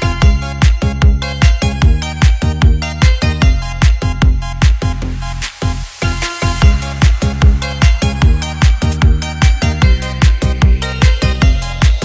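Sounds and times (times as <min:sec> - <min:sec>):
heavy kick drum: 0:00.0 - 0:05.1, 0:06.0 - 0:12.0
electronic dance music: 0:00.0 - 0:12.0.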